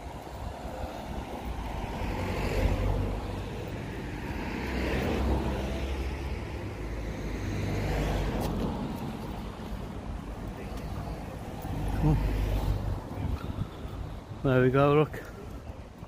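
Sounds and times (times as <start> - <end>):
cars passing: 0.0 - 16.0
low traffic rumble: 0.0 - 16.0.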